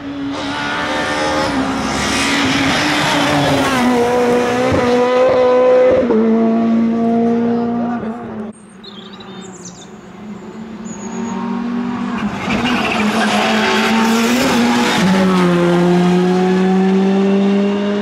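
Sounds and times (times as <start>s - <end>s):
rally car engine: 0.0s - 18.0s.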